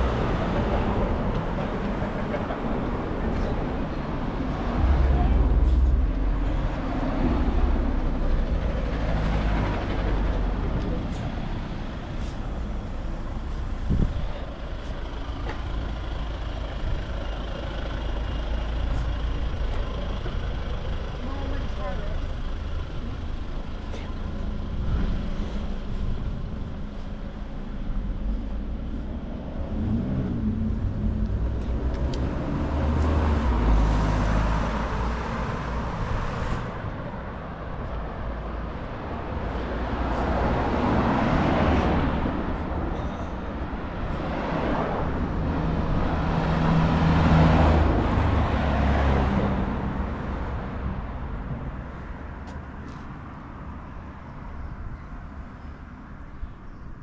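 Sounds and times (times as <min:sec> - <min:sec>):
motor vehicles passing: 0:00.0 - 0:56.8.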